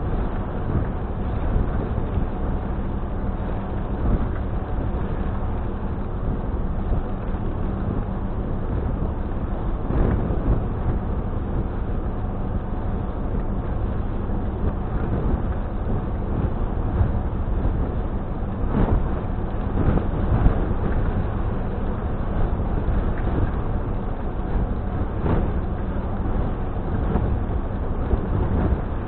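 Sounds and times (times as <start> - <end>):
continuous rushing noise: 0.0 - 29.0
low engine drone: 0.0 - 29.0.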